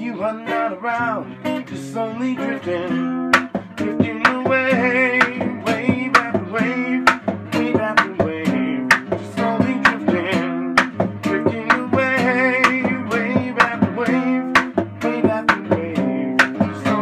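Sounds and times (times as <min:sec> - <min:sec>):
acoustic guitar strummed percussively: 0:00.0 - 0:17.0
man singing: 0:00.0 - 0:17.0.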